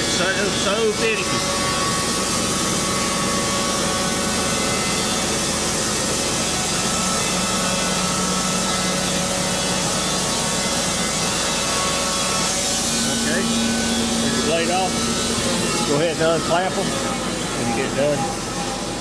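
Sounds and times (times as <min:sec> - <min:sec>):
band sawmill cutting a log: 0:00.0 - 0:19.0.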